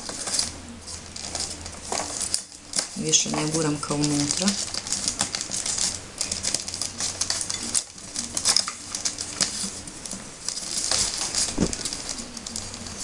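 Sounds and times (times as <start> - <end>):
newspaper tubes rustling and crackling: 0.0 - 13.0.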